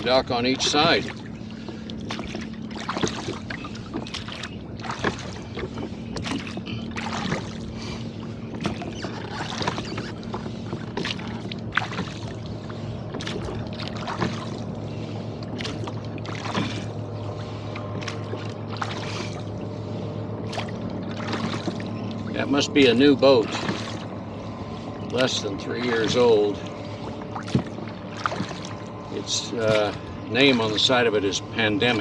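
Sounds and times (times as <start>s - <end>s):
steady low hum: 0.0s - 32.0s
water splashing against rowboat: 0.0s - 32.0s.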